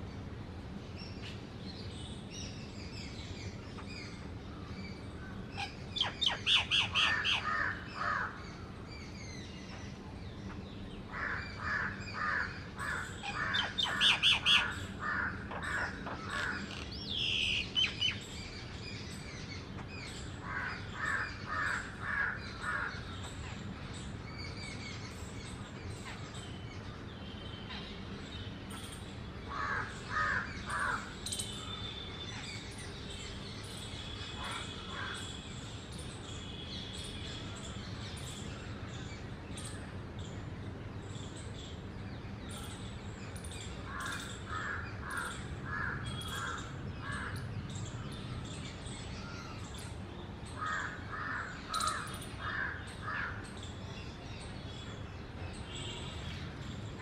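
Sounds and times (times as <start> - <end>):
birds chattering harshly: 5.3 - 8.8, 9.6 - 24.2, 25.0 - 57.0.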